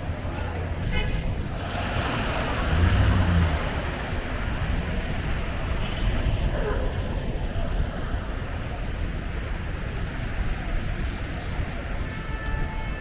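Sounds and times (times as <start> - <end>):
rush of traffic: 0.0 - 13.0
wind noise: 0.0 - 13.0.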